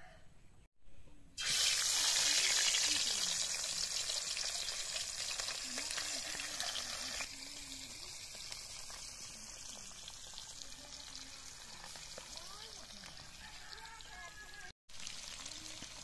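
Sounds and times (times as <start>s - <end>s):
fish sizzling in hot oil: 1.4s - 14.3s, 14.9s - 16.0s.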